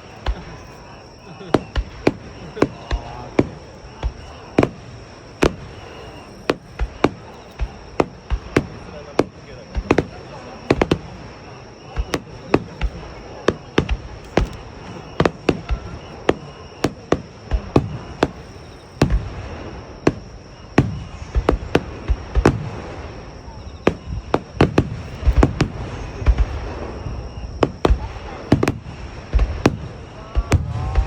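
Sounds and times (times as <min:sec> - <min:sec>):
firework shells bursting: 0:00.0 - 0:31.0.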